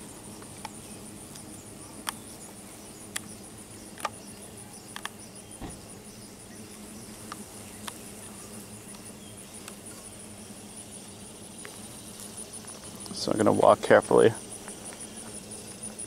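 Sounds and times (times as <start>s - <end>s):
high pulsing insect call: 0.0s - 16.0s
wasps buzzing: 0.0s - 16.0s.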